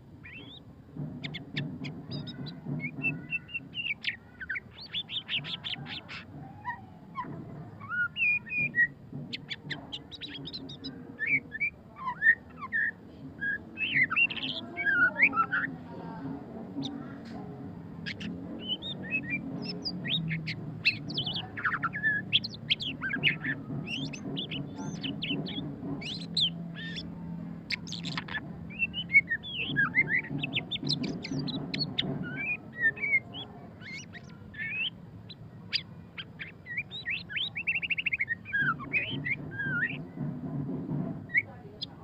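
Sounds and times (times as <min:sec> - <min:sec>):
bird singing varied song: 0:00.0 - 0:42.0.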